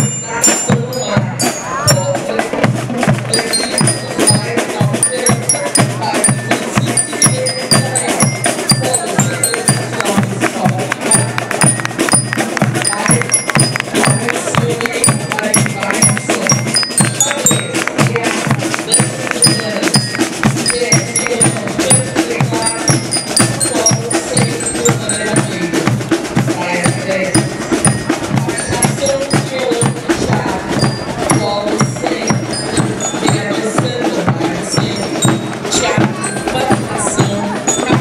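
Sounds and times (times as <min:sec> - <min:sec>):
high ringing bell lyre notes: 0:00.0 - 0:26.2, 0:26.9 - 0:38.0
bass drumbeat: 0:00.0 - 0:38.0.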